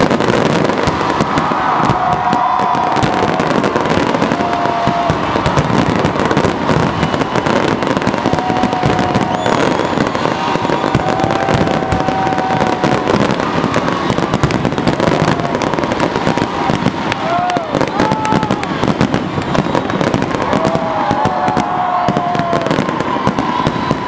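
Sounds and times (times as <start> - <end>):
firework bursts and crackling: 0.0 - 24.0
firework whistling: 0.0 - 24.0.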